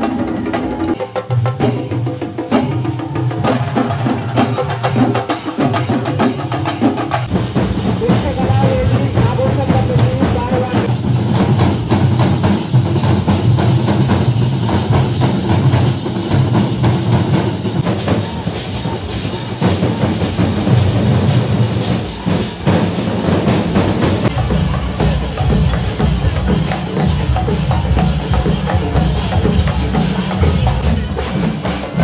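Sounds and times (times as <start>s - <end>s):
drum ensemble rapid strokes: 0.0s - 32.0s.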